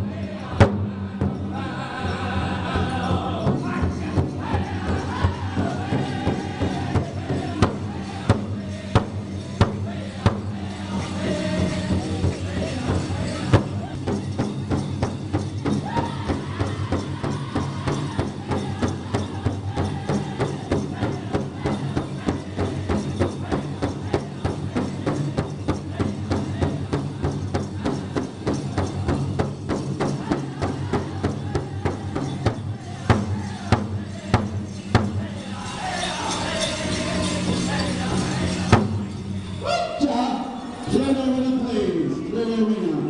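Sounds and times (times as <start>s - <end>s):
people singing: 0.0s - 43.0s.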